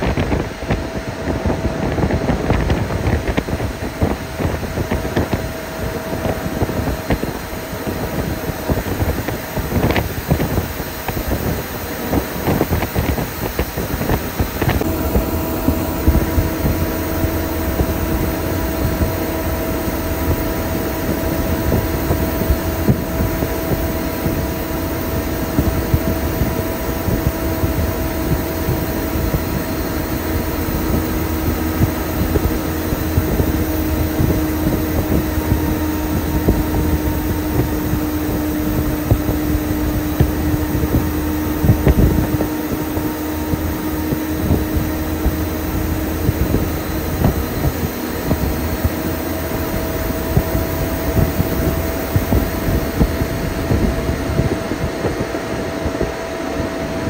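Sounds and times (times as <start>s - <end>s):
bus engine and road rumble: 0.0s - 57.0s
droning hum: 0.0s - 57.0s.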